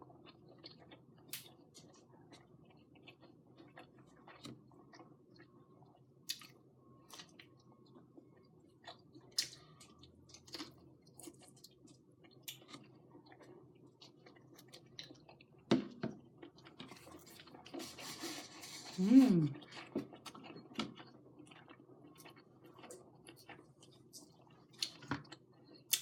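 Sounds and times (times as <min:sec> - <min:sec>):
chewing: 0:00.2 - 0:15.7, 0:16.4 - 0:18.0, 0:19.5 - 0:26.0.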